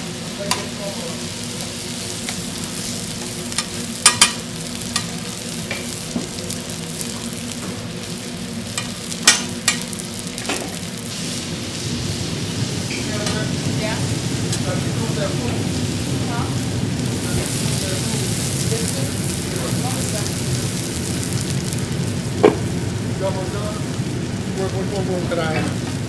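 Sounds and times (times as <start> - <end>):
eggs and ham sizzling on griddle: 0.0 - 26.0.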